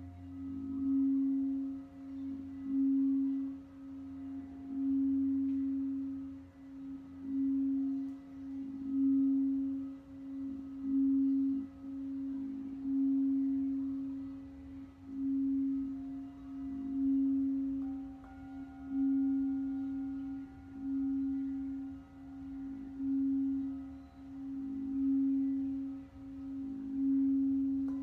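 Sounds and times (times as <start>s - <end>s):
crystal singing bowl tone: 0.0s - 28.0s.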